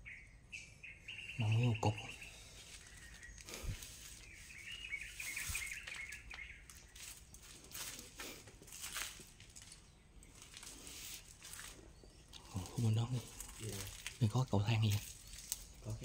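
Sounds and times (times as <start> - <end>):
small bird chirping trill: 0.0 - 16.0.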